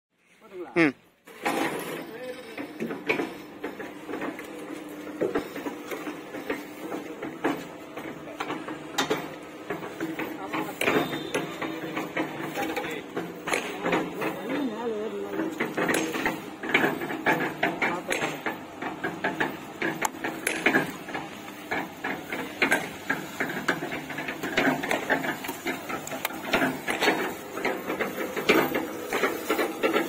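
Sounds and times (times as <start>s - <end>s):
mixer drum clattering: 1.3s - 30.0s
concrete mixer motor hum: 1.4s - 30.0s.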